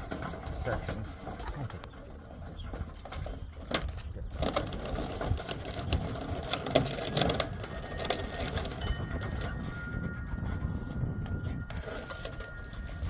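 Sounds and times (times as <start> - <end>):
clicking and rattling in metal downspout: 0.0 - 13.0.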